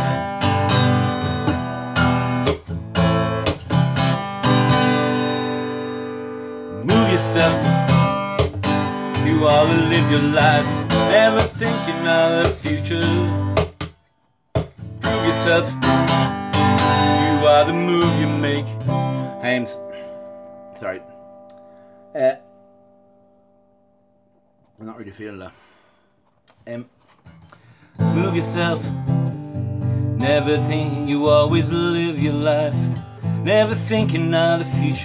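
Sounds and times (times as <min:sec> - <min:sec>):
acoustic guitar strumming: 0:00.0 - 0:24.8, 0:27.2 - 0:35.0.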